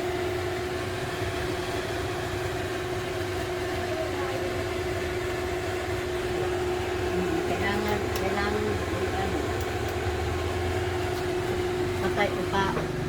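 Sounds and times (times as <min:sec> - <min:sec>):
range hood fan running: 0:00.0 - 0:13.0.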